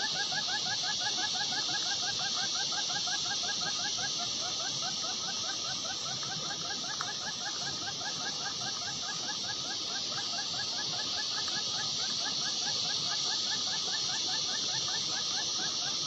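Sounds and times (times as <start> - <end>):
high insect-like hiss: 0.0 - 16.0
small animal chirping rapidly: 0.0 - 16.0.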